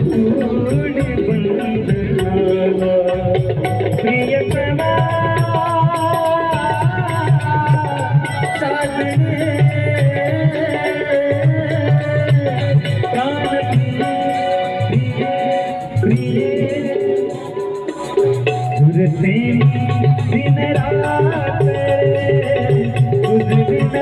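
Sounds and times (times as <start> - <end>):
bending instrumental melody: 0.0 - 24.0
drum beat: 0.0 - 24.0.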